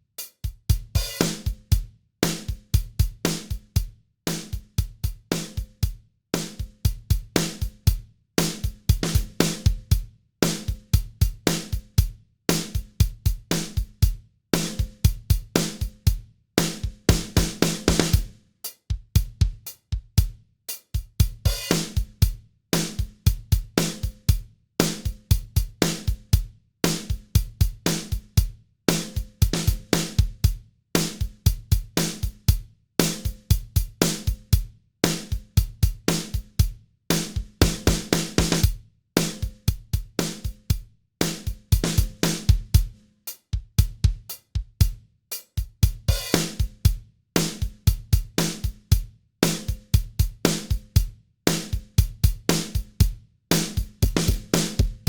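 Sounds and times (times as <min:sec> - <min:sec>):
drum kit groove: 0:00.0 - 0:55.0.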